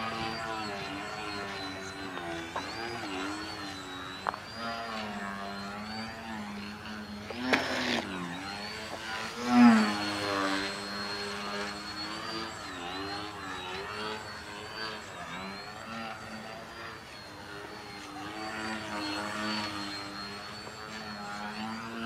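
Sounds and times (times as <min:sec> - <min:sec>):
high motor whine: 0:00.0 - 0:22.0
model plane electric motor and propeller: 0:00.0 - 0:22.0.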